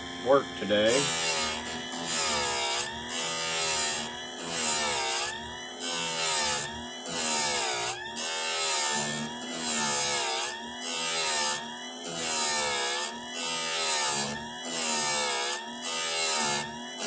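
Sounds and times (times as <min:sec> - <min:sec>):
chain grinder motor grinding: 0:00.0 - 0:17.0.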